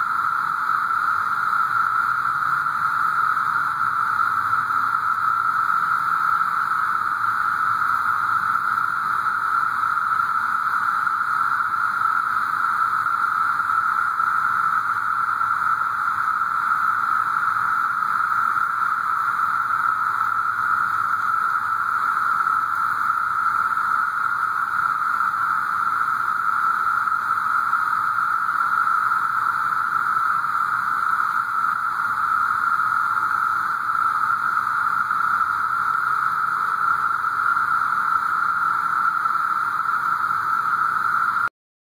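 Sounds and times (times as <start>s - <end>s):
cicadas droning: 0.0s - 41.5s.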